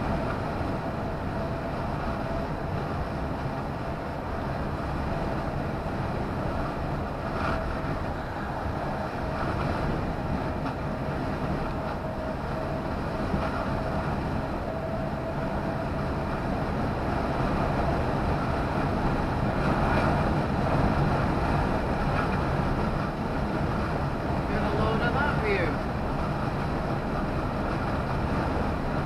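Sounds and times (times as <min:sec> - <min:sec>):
engine and road noise: 0:00.0 - 0:29.0.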